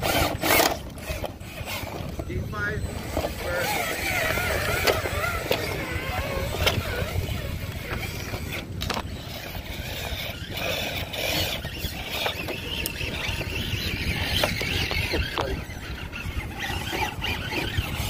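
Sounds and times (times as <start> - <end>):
electric motor and gears whine: 0.0 - 18.0
wind on microphone: 0.0 - 18.0
tyres clicking on rock: 3.1 - 18.0.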